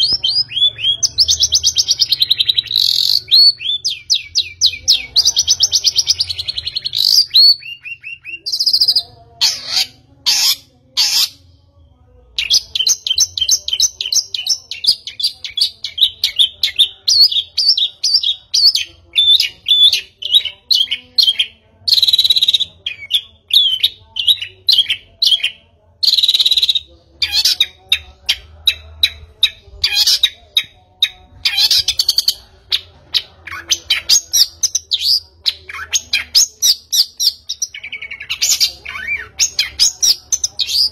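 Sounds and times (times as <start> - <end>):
bird chirping and trilling: 0.0 - 11.5, 12.4 - 40.9.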